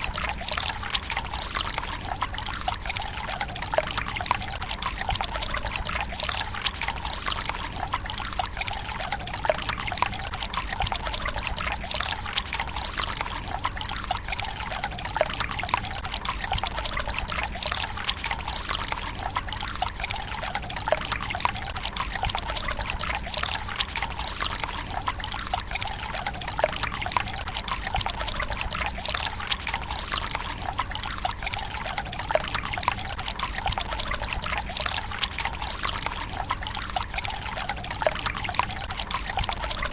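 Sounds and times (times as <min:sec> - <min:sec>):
water trickling into stone basin: 0:00.0 - 0:39.9.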